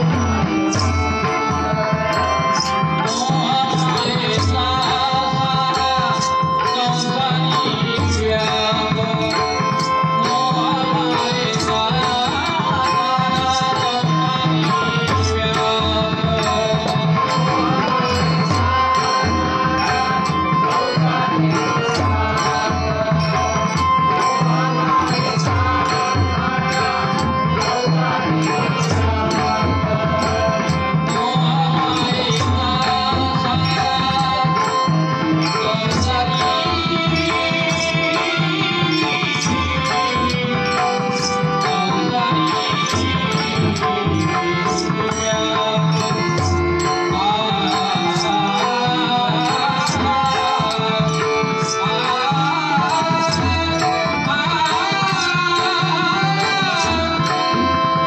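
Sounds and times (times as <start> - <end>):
held melody line: 0.0 - 58.0.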